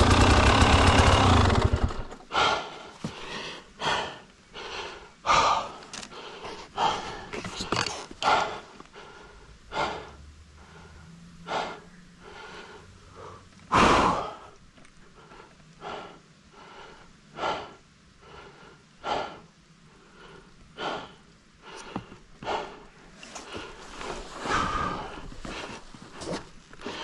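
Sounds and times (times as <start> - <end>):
heavy rhythmic breathing: 0.0 - 27.0.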